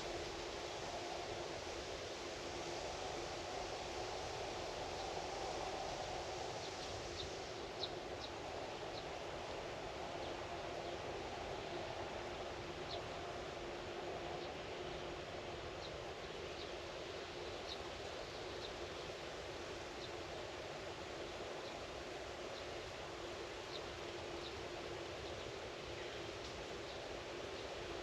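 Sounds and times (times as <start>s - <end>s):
steady rustling hiss: 0.0s - 28.0s.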